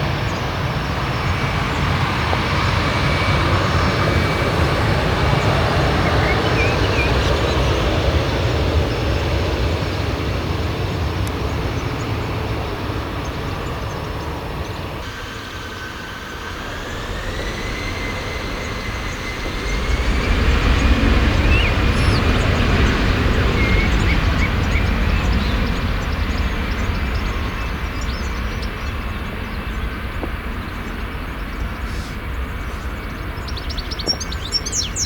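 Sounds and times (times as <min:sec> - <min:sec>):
jet engines spooling up: 0:00.0 - 0:35.0.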